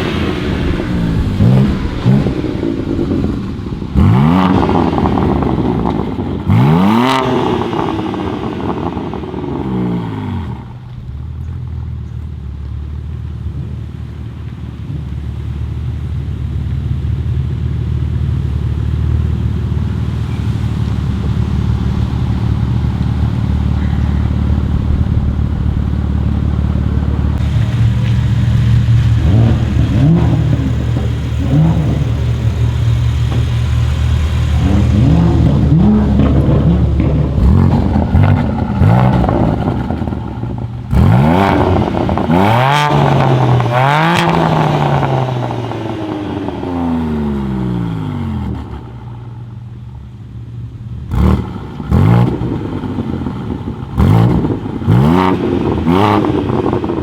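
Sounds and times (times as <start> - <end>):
car engine idling and revving: 0.0 - 57.0
sharp exhaust cracks: 0.0 - 57.0.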